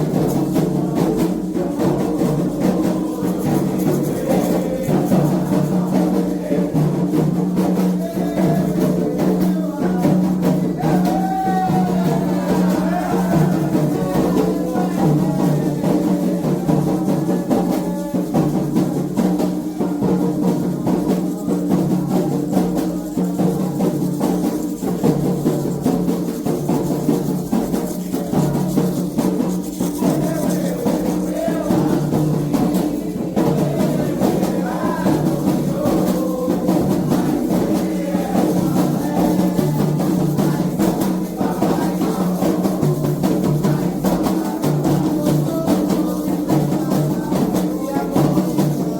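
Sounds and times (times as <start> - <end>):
hand drums beaten in rhythm: 0.0 - 48.9
other percussion: 0.0 - 48.9
voices singing: 0.0 - 48.9.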